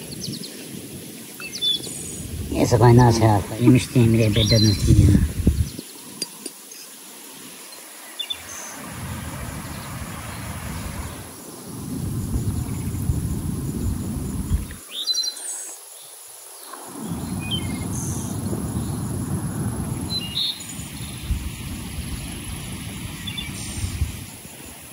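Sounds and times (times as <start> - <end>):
birds chirping: 0.0 - 24.8.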